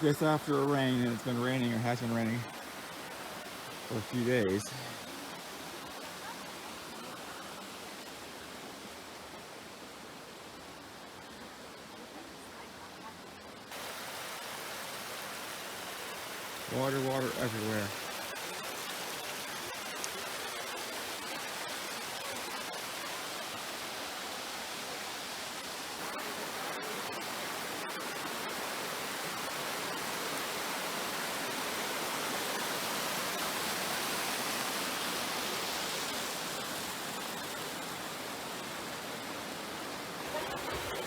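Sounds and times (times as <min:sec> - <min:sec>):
waterfall rushing over rock: 0:00.0 - 0:11.9, 0:13.7 - 0:41.0.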